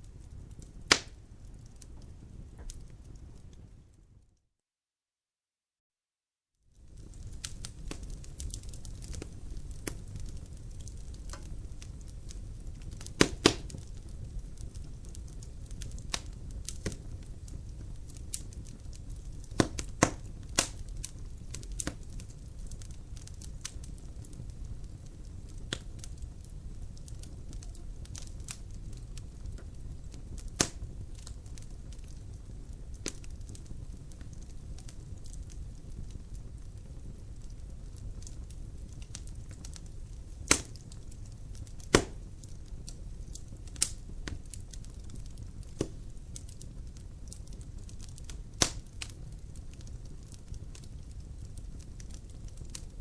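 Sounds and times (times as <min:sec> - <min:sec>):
wood fire crackling: 0:00.0 - 0:04.1, 0:06.7 - 0:53.0.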